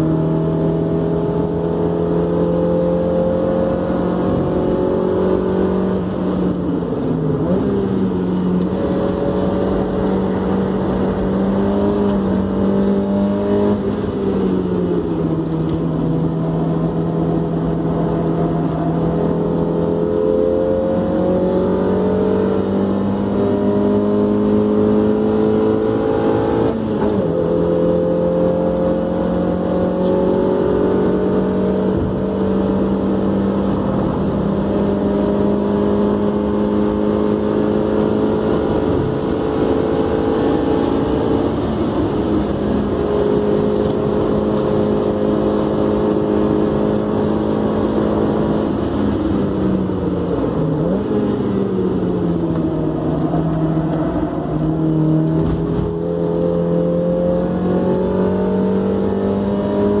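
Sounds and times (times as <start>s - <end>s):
car engine at high revs: 0.0s - 60.0s.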